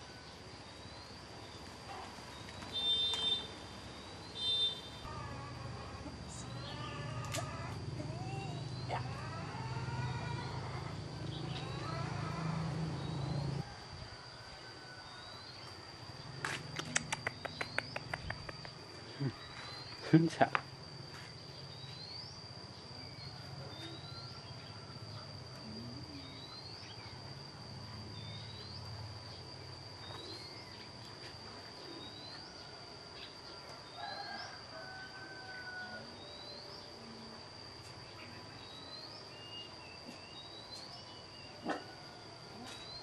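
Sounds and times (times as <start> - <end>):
rising insect chirp: 0.0 - 43.0
insect buzzing: 1.8 - 19.9, 20.8 - 43.0.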